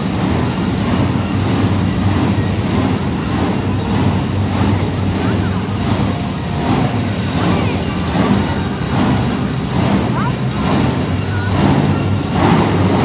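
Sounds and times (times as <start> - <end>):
haze of voices: 0.0 - 13.0
truck engine humming: 0.0 - 13.0.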